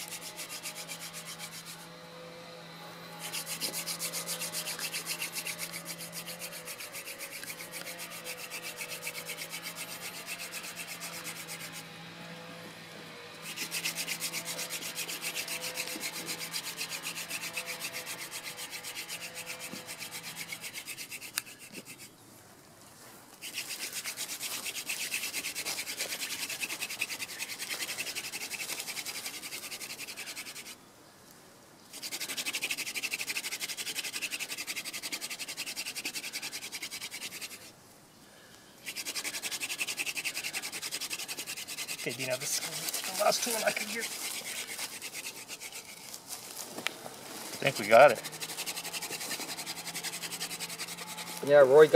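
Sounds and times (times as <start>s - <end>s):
wooden spindle rubbing on board: 0.0s - 1.9s, 3.2s - 11.9s, 13.4s - 22.1s, 23.4s - 30.8s, 31.9s - 37.7s, 38.8s - 46.2s, 47.6s - 51.9s.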